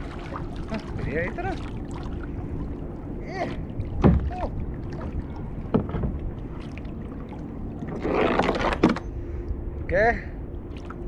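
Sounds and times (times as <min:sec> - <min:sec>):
swishes and creaks against hull: 0:00.0 - 0:09.8
steady low hum: 0:00.0 - 0:11.0.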